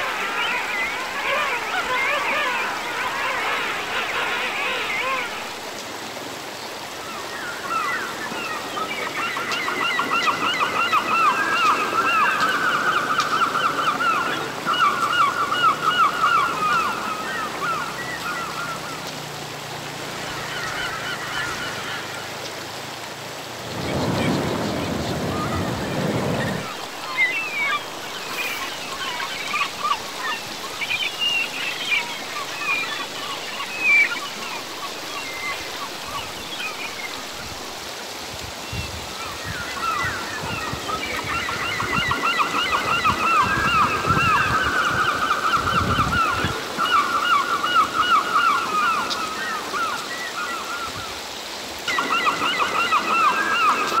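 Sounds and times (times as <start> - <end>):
rushing stream: 0.0 - 54.0.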